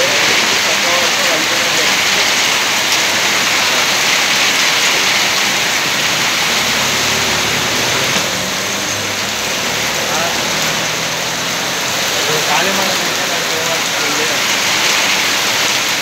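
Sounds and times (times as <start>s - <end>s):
heavy rain on street: 0.0s - 16.0s
motor scooter engine passing: 2.5s - 15.6s.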